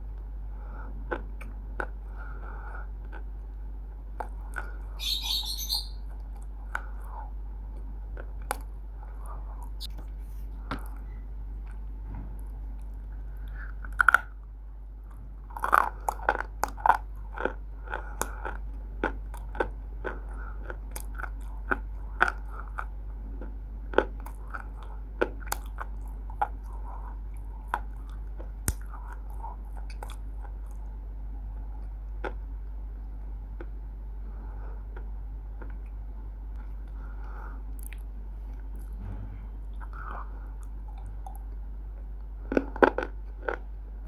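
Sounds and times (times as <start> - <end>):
person chewing crunchy clay: 0.9 - 11.0, 12.6 - 32.8, 33.5 - 39.0, 39.7 - 44.0.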